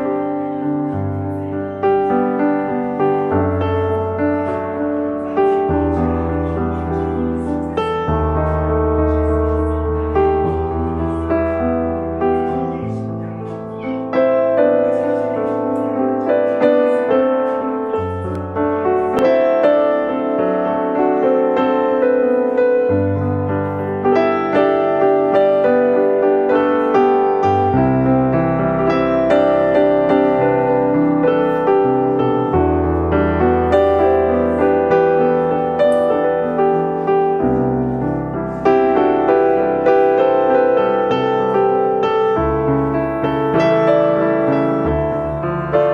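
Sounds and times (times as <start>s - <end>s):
gentle piano music: 0.0s - 45.9s.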